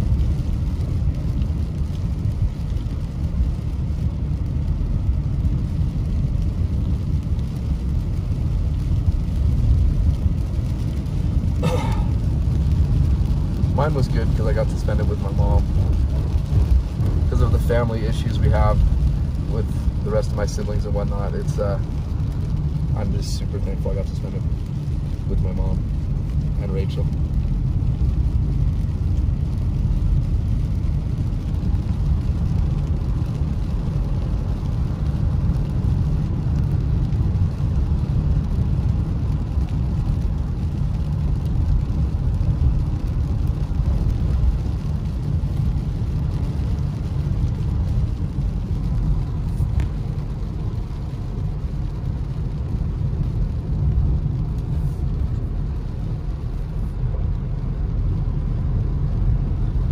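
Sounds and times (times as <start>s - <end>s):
car driving on wet road: 0.0s - 59.9s.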